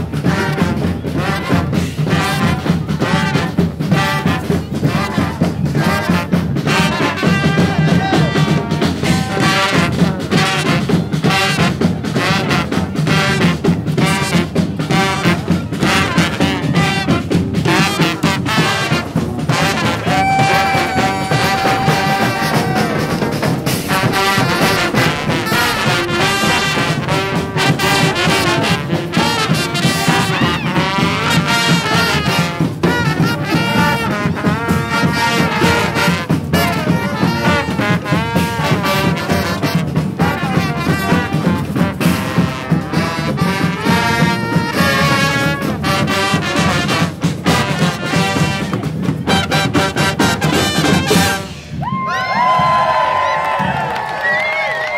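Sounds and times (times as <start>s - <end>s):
percussion hits: 0.0s - 54.7s
brass band playing: 0.0s - 54.9s.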